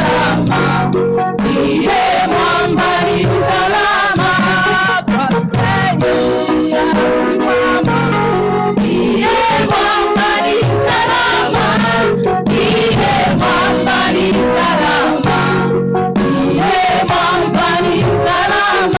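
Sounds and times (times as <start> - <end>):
gospel choir singing over band: 0.0 - 19.0.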